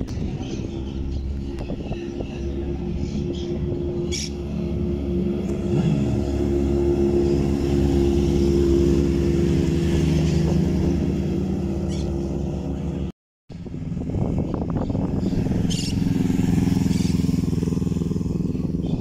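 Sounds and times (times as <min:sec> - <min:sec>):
motorcycle engines passing: 0:00.0 - 0:19.0.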